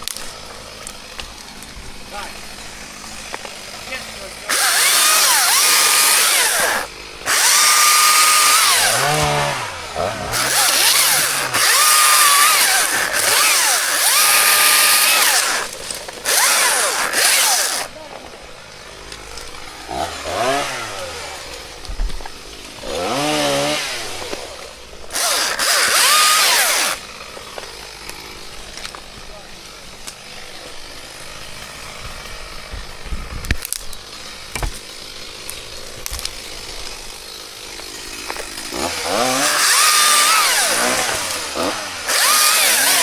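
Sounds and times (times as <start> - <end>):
chainsaw cutting at full throttle: 0.0 - 43.0
chainsaw idling: 0.0 - 43.0.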